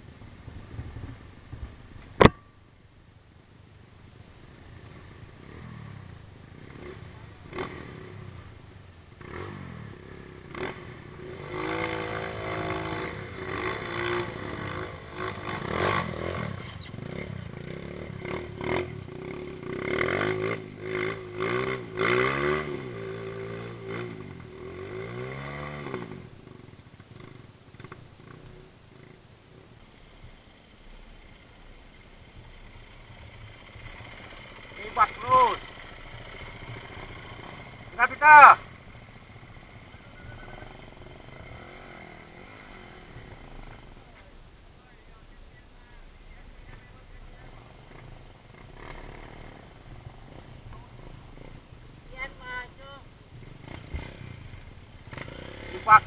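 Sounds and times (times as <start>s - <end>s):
vehicle engine revving: 4.5s - 56.0s.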